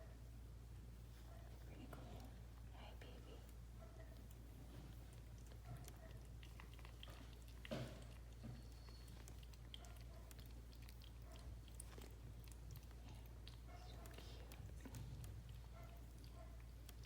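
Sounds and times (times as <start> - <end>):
low steady hum: 0.0 - 17.0
cats' wet clicks and smacks: 1.6 - 17.0.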